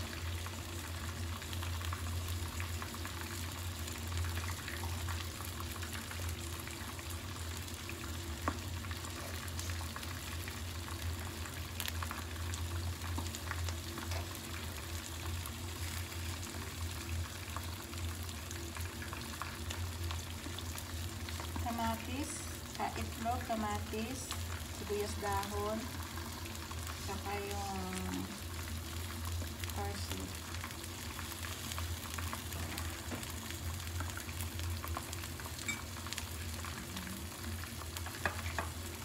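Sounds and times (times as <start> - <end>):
egg sizzling in frying pan: 0.0 - 39.0.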